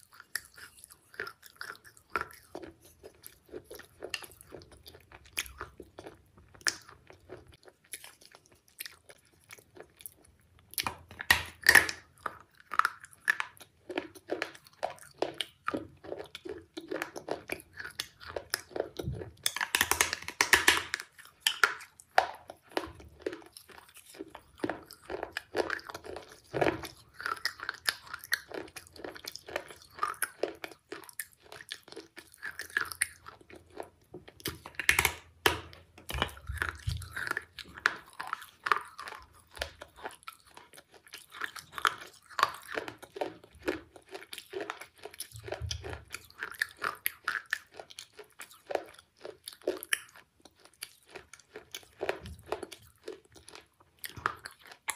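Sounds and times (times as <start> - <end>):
person chewing hard food: 0.0 - 54.9.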